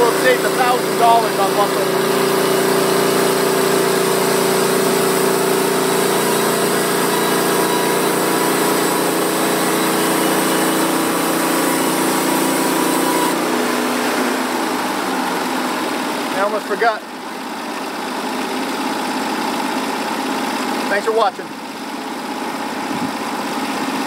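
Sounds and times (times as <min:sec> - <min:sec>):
sawmill engine running: 0:00.0 - 0:24.0.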